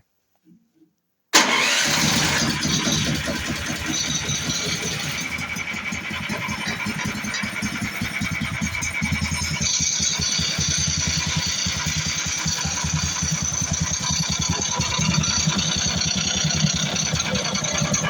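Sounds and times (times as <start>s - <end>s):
electric starter cranking: 1.4s - 18.0s
engine running steadily: 1.4s - 18.0s.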